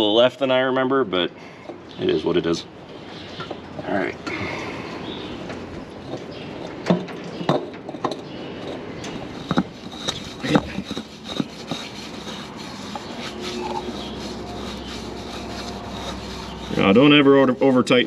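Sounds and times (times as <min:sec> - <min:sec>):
oil filter clicking and scraping: 0:03.3 - 0:18.0.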